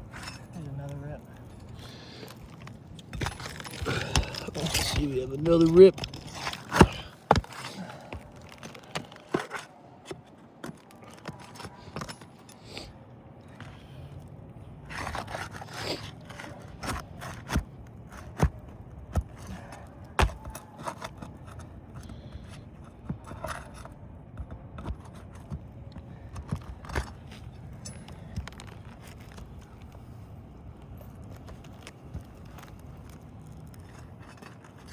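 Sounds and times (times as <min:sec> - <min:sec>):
shingles being scraped loose: 0:00.0 - 0:12.9, 0:13.5 - 0:30.0, 0:31.2 - 0:34.9.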